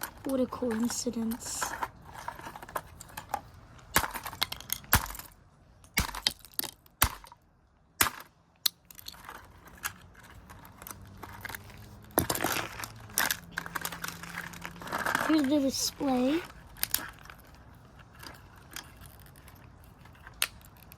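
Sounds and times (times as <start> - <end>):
rustling handling noise: 0.0 - 5.4, 8.8 - 20.9.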